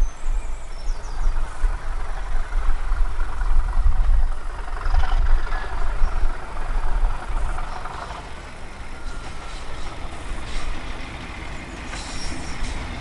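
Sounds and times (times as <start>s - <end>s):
distant diesel locomotive rumble: 0.0s - 13.0s.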